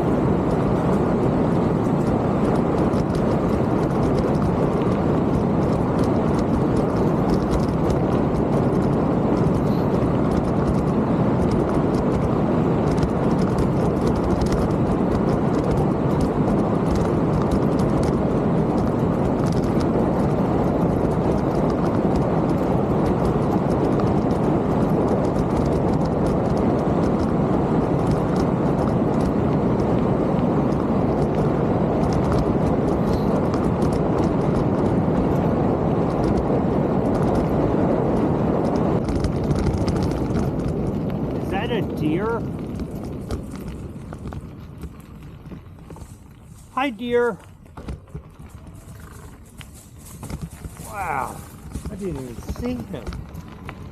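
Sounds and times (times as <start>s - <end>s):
bike clicks and rattles: 0.0s - 53.9s
bike tyre noise: 0.0s - 53.9s
wind rush on microphone: 0.0s - 53.9s.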